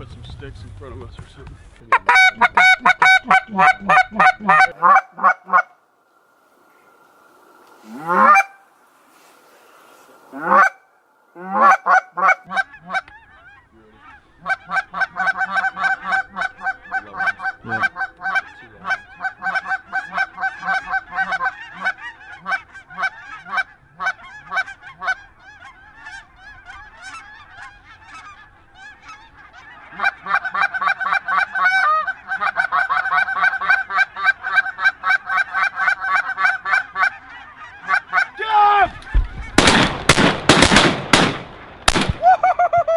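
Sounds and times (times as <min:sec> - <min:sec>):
goose honking: 0:01.9 - 0:39.7.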